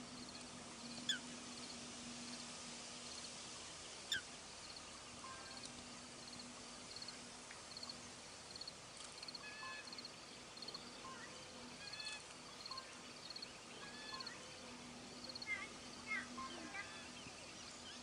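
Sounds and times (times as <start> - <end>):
faint low hum: 0.0 - 18.0
low steady hiss: 0.0 - 18.0.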